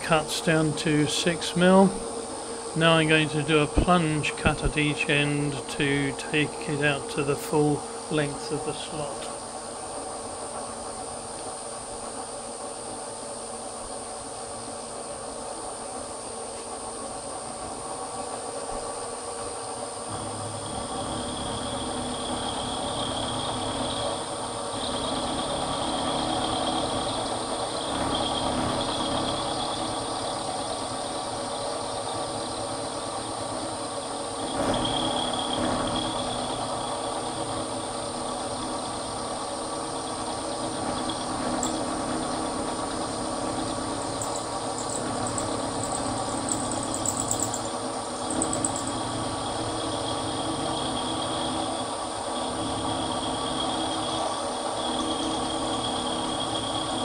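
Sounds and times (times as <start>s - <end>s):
high cutting whine: 0.0s - 14.9s, 19.7s - 57.0s
milling machine hum: 0.0s - 57.0s.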